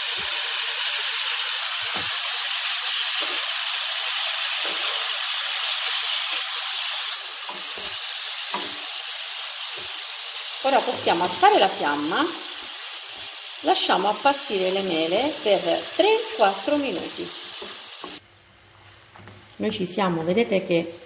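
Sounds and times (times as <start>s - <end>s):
apples sizzling in a pan: 0.0s - 20.8s.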